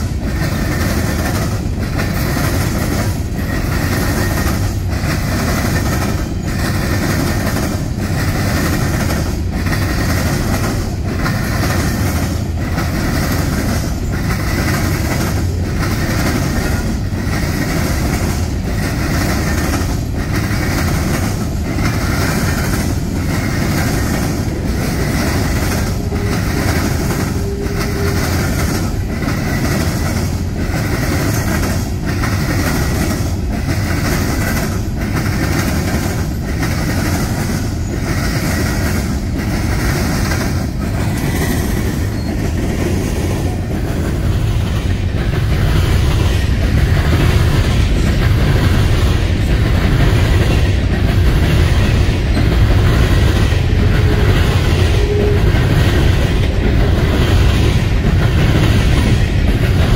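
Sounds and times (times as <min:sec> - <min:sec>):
steel wheels rumbling on rail: 0:00.0 - 0:59.9
train clickety-clack: 0:00.0 - 0:59.9.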